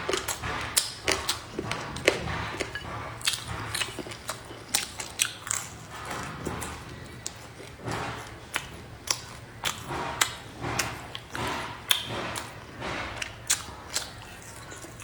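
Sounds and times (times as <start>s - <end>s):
person chewing and crunching: 0.0s - 15.0s.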